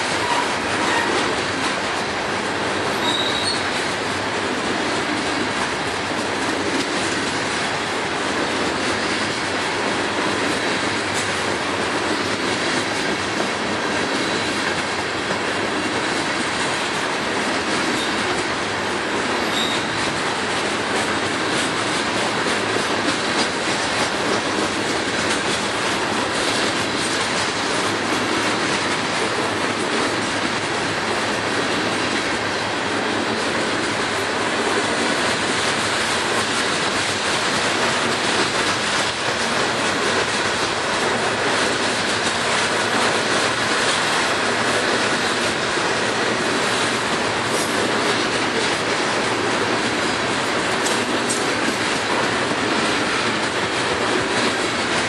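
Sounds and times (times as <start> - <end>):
clickety-clack over rail joints: 0.0 - 55.0
freight train wheels on rail: 0.0 - 55.0.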